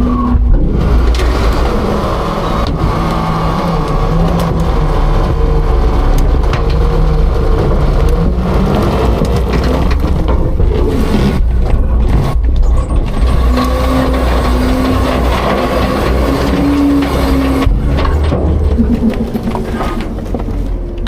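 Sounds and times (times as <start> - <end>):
diesel engine running at raised revs: 0.0 - 21.0
steady whine: 0.0 - 21.0.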